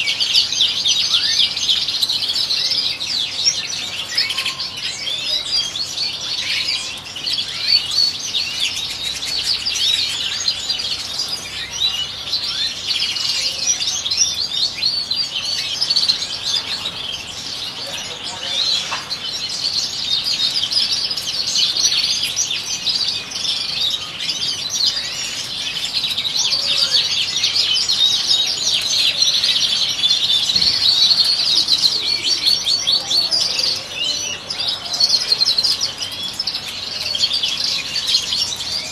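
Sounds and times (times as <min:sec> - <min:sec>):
goldfinches chirping and trilling: 0:00.0 - 0:38.9.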